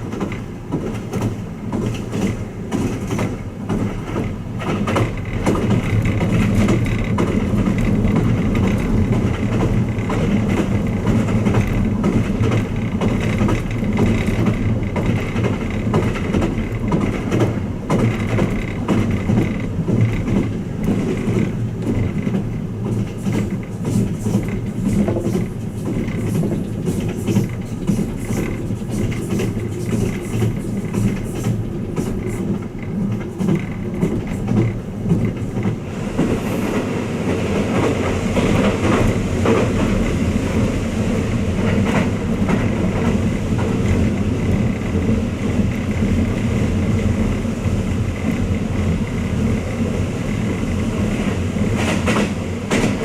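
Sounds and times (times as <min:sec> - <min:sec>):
train running drone: 0:00.0 - 0:53.0.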